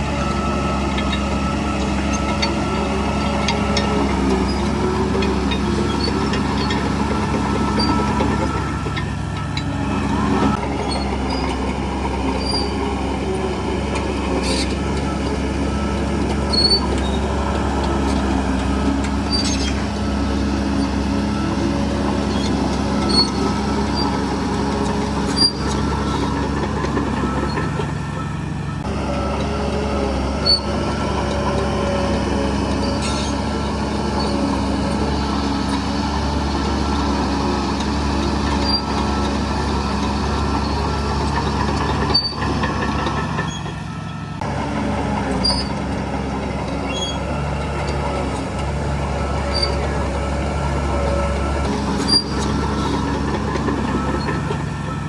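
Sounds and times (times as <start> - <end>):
bulldozer diesel engine running: 0.0 - 55.0
short squeaks and clicks: 0.2 - 29.0, 29.6 - 44.5, 45.2 - 55.0.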